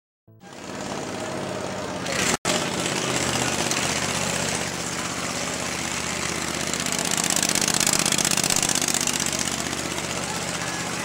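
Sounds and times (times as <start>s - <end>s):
small gasoline engine running: 0.4s - 11.0s.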